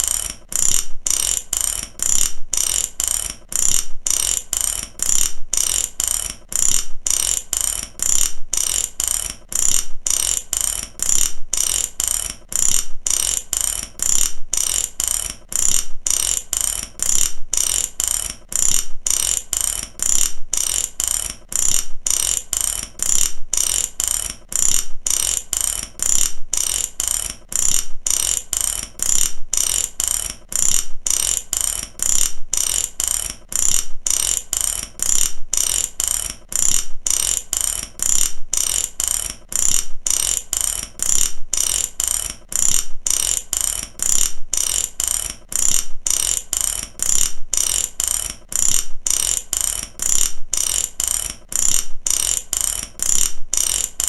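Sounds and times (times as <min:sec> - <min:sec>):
ratchet clicking: 0:00.0 - 0:54.0.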